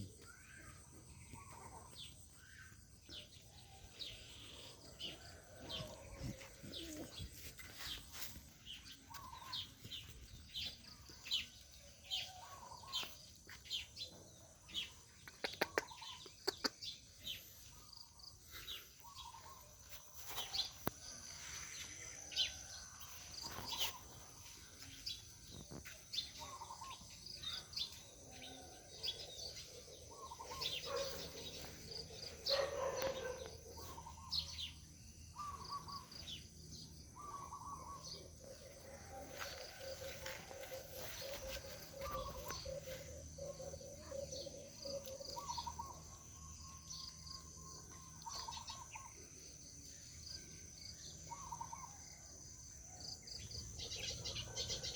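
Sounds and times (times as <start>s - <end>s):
birds chirping: 0.0s - 21.2s, 21.9s - 52.2s.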